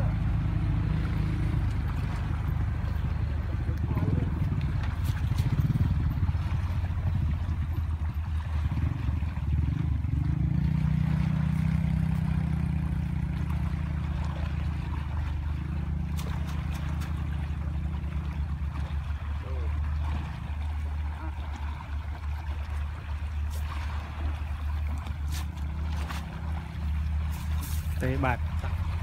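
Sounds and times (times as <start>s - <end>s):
engine droning: 0.0s - 29.0s.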